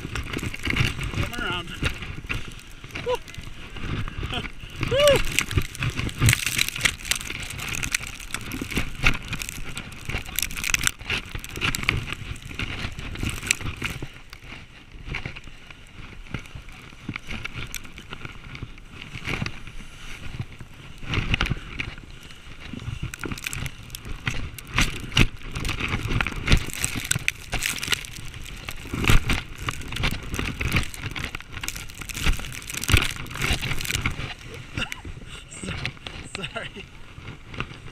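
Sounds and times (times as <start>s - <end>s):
sliding hiss over snow: 0.0s - 14.6s, 15.2s - 37.9s
snow crunches and knocks: 0.0s - 37.9s.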